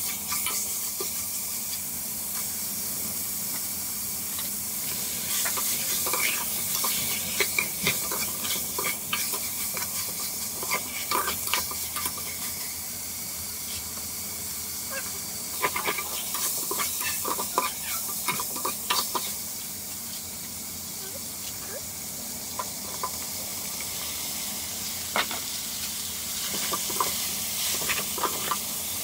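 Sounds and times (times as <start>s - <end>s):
meat and fish sizzling in a pot: 0.0s - 29.0s.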